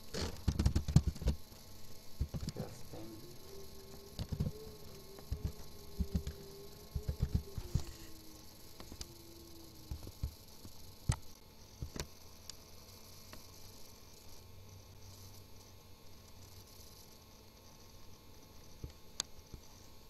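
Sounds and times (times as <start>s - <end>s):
faint wavering hum: 0.0s - 20.0s.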